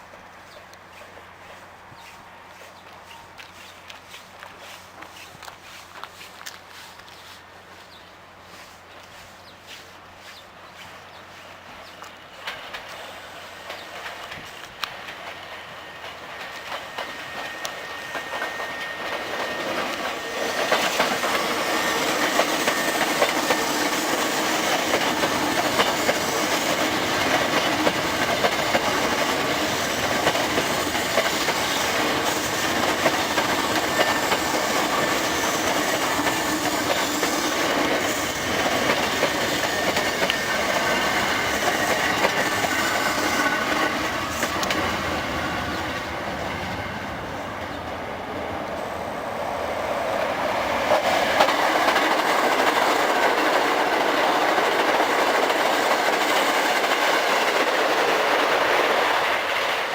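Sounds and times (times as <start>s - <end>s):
electric train rumbling past: 7.5s - 59.9s.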